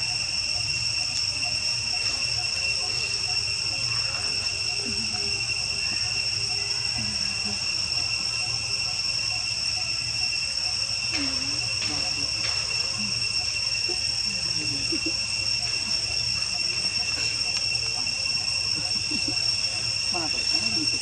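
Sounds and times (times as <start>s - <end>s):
insect chorus shrill drone: 0.0s - 21.0s.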